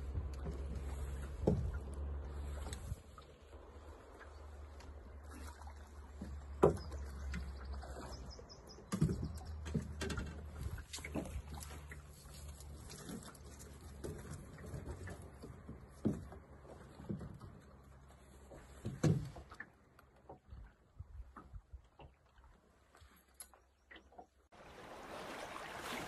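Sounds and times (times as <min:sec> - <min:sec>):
low steady rumble: 0:00.0 - 0:22.8.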